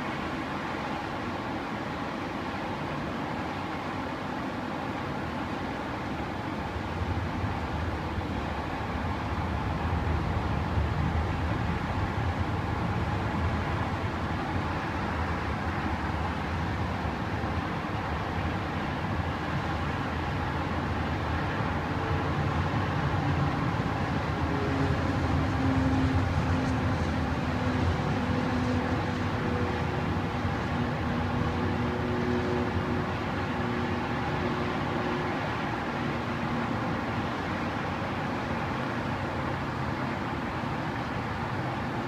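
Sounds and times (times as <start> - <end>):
city background hum: 0.0 - 42.0
distant jet engine noise: 0.0 - 42.0.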